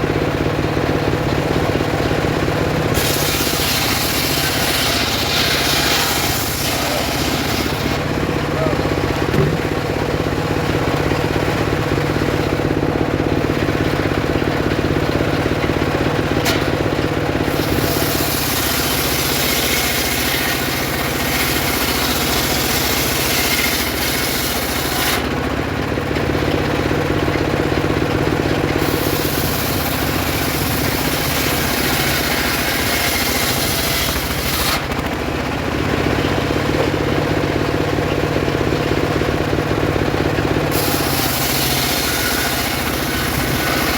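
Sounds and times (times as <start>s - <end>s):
circular saw running: 0.0s - 43.9s.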